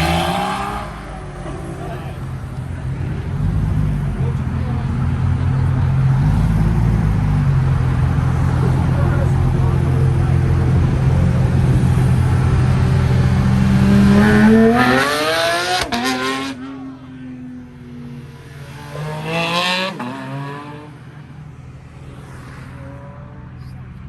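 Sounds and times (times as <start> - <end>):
car engine revving and accelerating: 0.0 - 17.0, 18.1 - 21.3.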